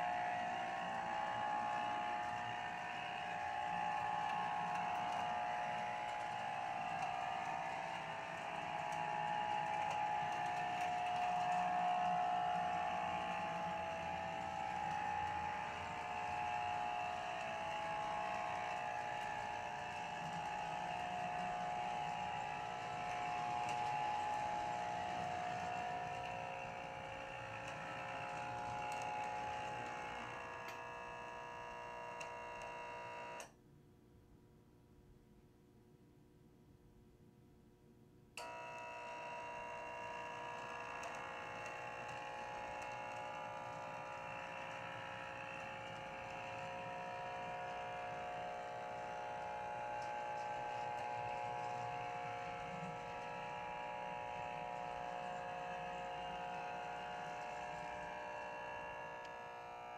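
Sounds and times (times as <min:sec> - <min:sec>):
model train motor and gear whine: 0:00.0 - 0:33.5, 0:38.4 - 0:59.9.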